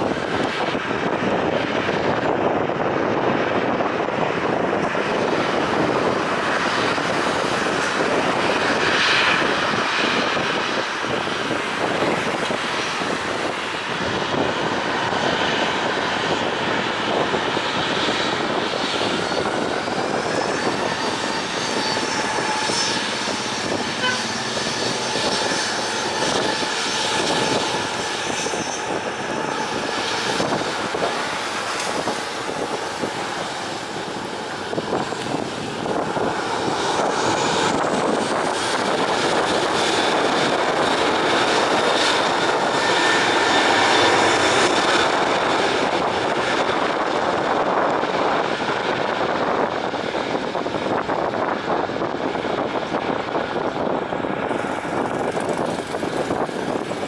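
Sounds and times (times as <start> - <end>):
high jet whine: 0.0 - 57.0
jet engines taxiing: 0.0 - 57.0.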